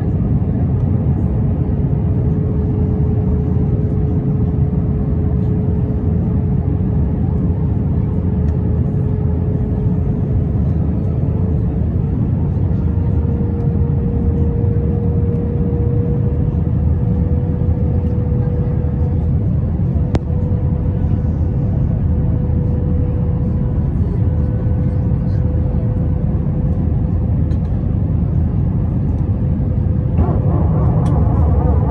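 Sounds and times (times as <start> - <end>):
airplane cabin rumble: 0.0 - 31.9
jet engine hum: 0.0 - 31.9.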